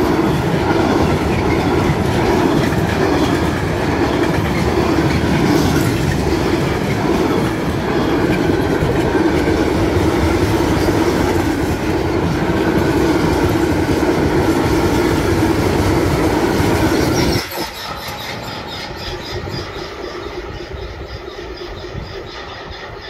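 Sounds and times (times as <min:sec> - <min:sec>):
freight train wheels rumbling: 0:00.0 - 0:23.0
wheels clattering over rail joints: 0:00.0 - 0:23.0.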